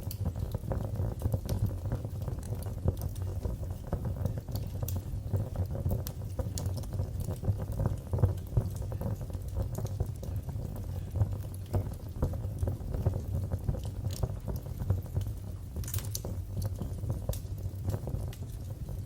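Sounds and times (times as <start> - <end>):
fire crackling and popping: 0.0 - 19.0
fire rumbling in fireplace: 0.0 - 19.0.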